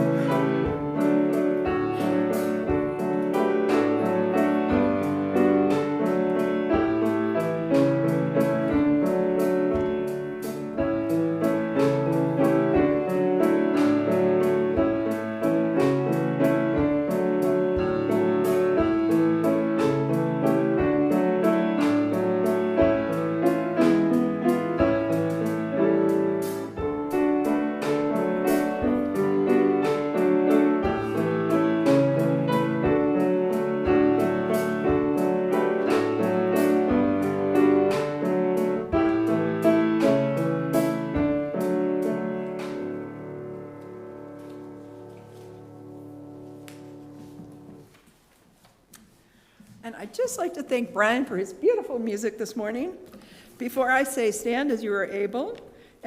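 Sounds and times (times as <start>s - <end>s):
piano music: 0.0s - 48.3s.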